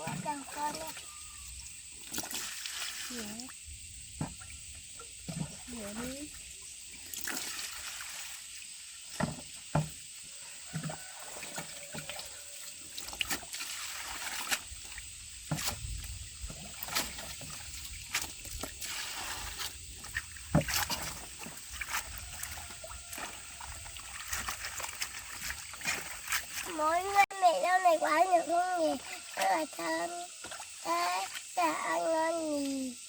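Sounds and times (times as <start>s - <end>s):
small splashes: 0.0s - 33.0s
water sloshing and trickling: 0.0s - 33.0s.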